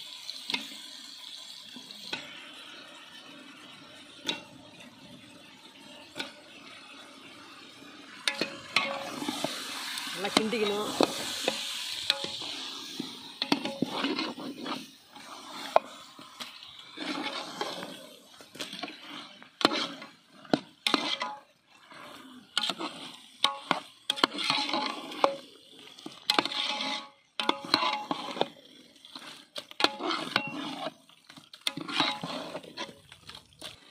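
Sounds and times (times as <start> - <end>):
frying sizzle: 0.0 - 33.9
metal ladle scraping a metal pot: 5.7 - 33.8.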